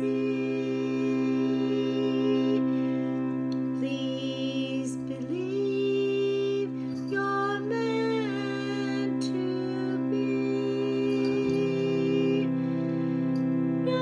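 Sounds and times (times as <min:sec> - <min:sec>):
droning chord: 0:00.0 - 0:14.0
woman singing wordless melody: 0:00.0 - 0:14.0.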